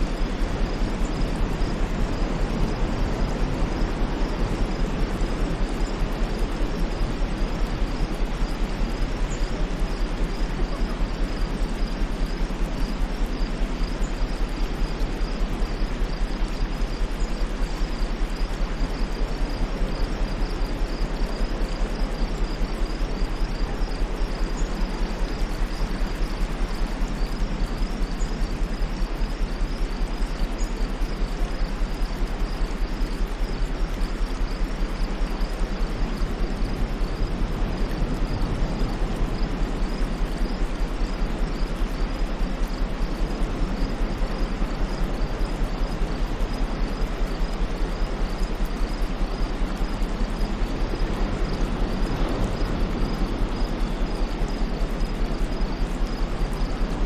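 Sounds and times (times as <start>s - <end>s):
white noise: 0.0s - 57.0s.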